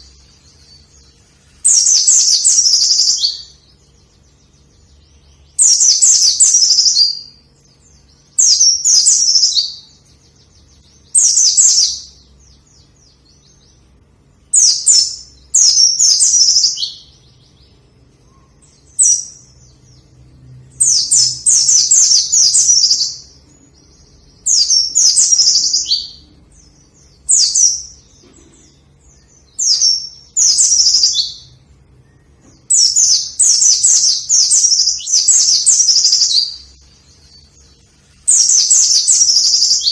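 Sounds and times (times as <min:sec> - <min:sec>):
bird singing high-pitched phrases: 0:00.0 - 0:39.9.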